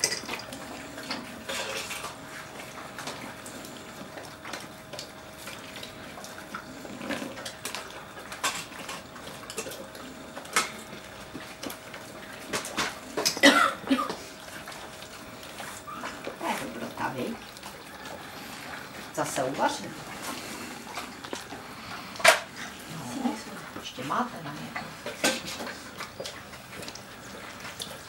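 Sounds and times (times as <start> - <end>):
dog chewing and licking: 0.0 - 28.0.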